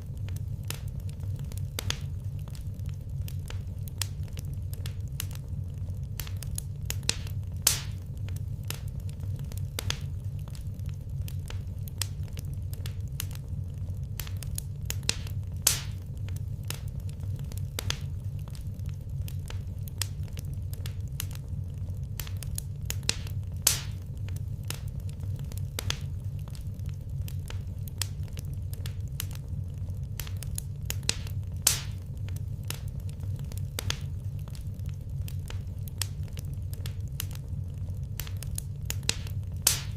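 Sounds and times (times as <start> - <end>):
loud fire pops: 0.0 - 39.9
low fire rumble: 0.0 - 39.9
wood fire crackling: 0.0 - 39.9.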